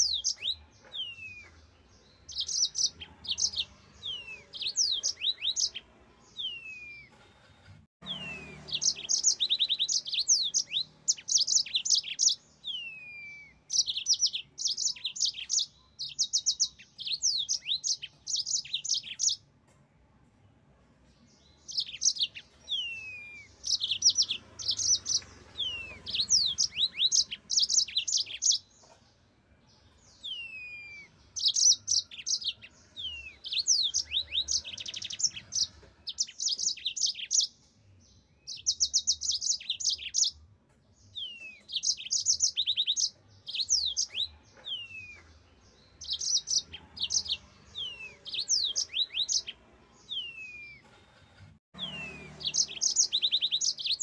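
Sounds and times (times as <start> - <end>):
canary singing trills and whistles: 0.0 - 7.1, 8.0 - 19.4, 21.4 - 29.0, 29.9 - 40.4, 41.0 - 51.0, 51.8 - 54.0.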